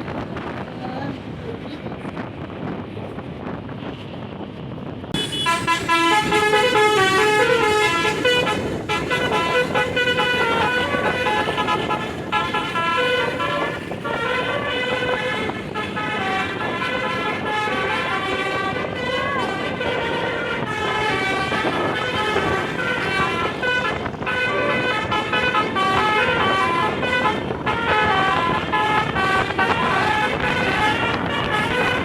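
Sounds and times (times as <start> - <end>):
musical air horn tune: 5.2 - 32.0.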